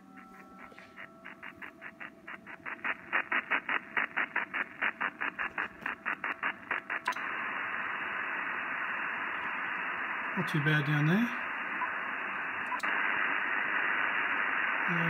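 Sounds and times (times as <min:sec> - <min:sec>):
radio interference noise bursts: 0:00.0 - 0:15.0.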